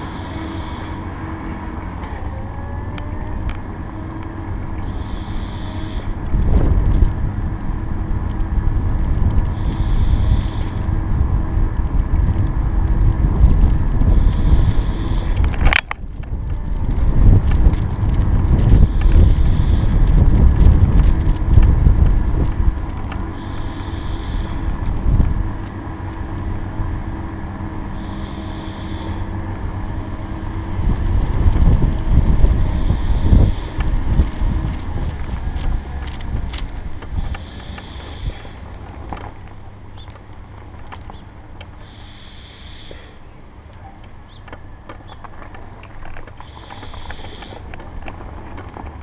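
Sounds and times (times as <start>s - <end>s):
steady hum: 0.0s - 40.6s, 41.2s - 43.7s, 46.3s - 48.1s
wind buffeting microphone: 0.0s - 41.8s
wheels rumbling on tarmac: 0.0s - 49.0s.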